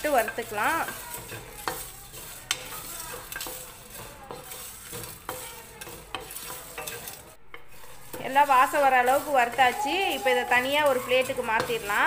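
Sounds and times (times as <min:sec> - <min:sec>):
spatula tapping pan: 0:00.0 - 0:12.0
spices scraping across pan: 0:00.0 - 0:12.0.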